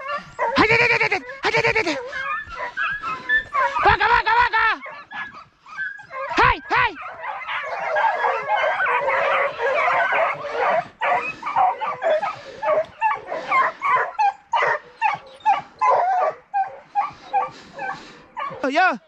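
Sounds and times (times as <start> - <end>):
hounds yelping and baying: 0.0 - 19.0.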